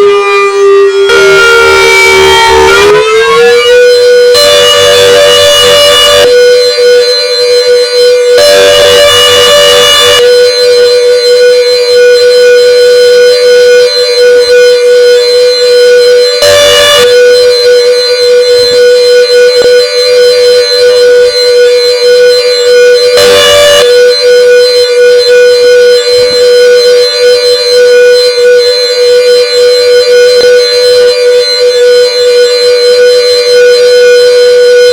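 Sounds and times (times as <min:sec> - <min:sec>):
siren high steady tone: 0:00.0 - 0:34.9.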